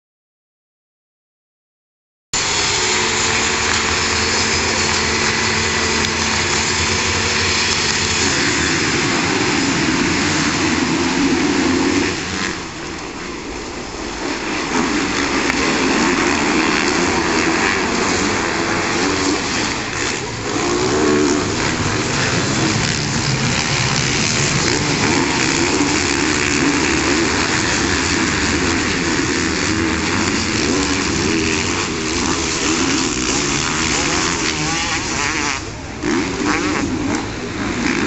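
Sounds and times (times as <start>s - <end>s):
motocross bikes revving: 2.4s - 38.0s.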